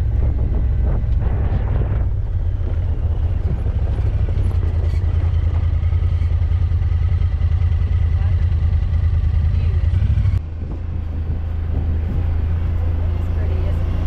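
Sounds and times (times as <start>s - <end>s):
vehicle engine running: 0.0s - 14.0s
wind and road rush: 0.0s - 14.0s.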